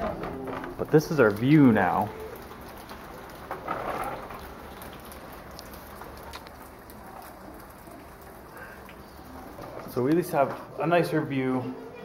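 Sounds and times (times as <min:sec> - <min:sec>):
raindrops ticking on surfaces: 0:00.0 - 0:11.5
light rain falling: 0:00.0 - 0:12.0.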